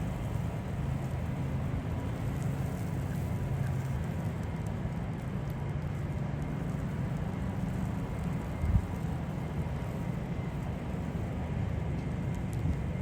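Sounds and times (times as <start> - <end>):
distant traffic: 0.0 - 13.0
low street rumble: 0.0 - 13.0.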